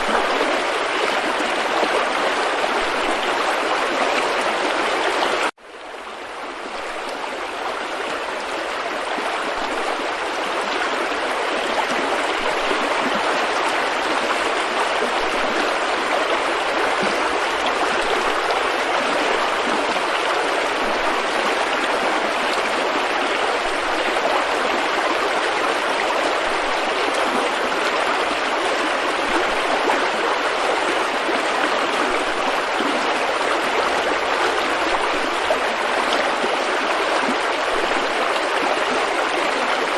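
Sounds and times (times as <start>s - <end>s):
water rushing over rocks: 0.0s - 5.5s, 6.3s - 39.9s.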